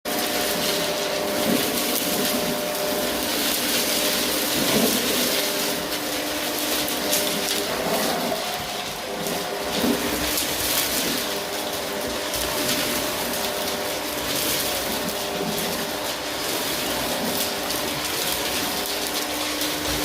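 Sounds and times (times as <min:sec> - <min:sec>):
vacuum cleaner running: 0:00.0 - 0:20.0
debris crackling and rattling: 0:00.1 - 0:20.0.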